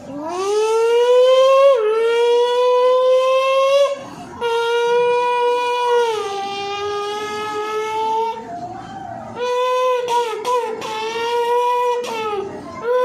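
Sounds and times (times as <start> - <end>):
child imitating a horn: 0.1 - 8.4, 9.4 - 13.0.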